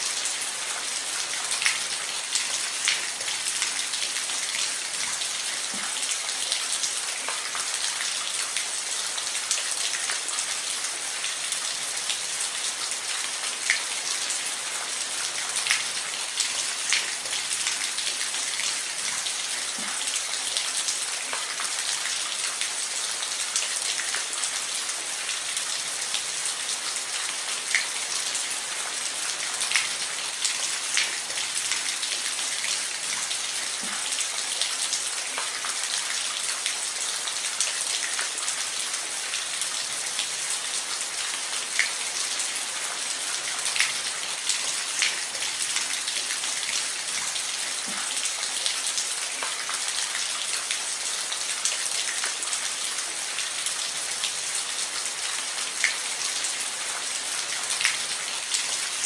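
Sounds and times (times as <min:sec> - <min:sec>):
rain falling on a roof: 0:00.0 - 0:59.0.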